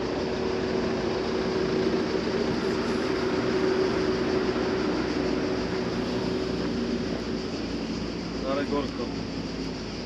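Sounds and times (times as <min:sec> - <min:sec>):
road and wind noise: 0:00.0 - 0:10.0
vehicle engine hum: 0:00.0 - 0:10.0.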